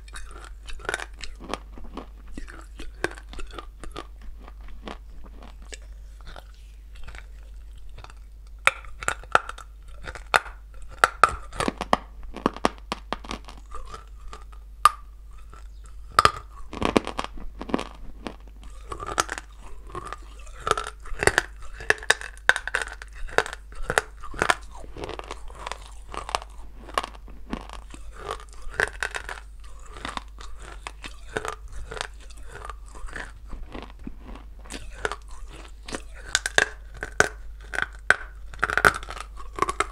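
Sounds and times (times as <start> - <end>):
chewing crunchy dry clay: 0.0 - 39.9.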